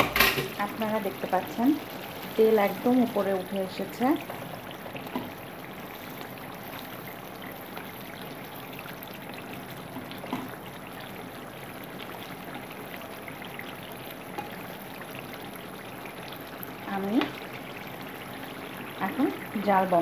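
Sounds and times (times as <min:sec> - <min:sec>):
curry simmering and sizzling: 0:00.0 - 0:20.0.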